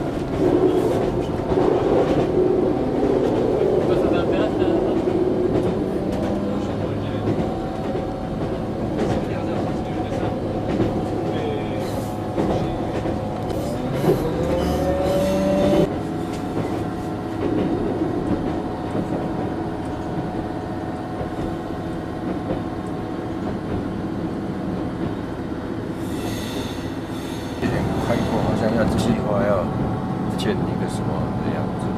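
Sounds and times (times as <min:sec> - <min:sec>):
train wheels rumbling: 0:00.0 - 0:31.9.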